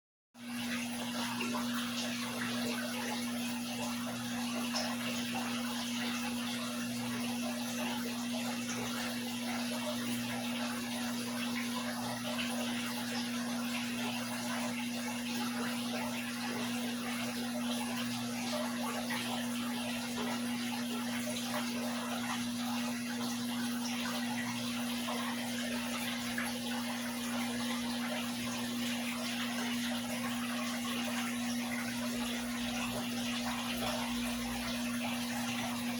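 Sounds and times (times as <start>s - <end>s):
aquarium water bubbling: 0.4s - 35.9s.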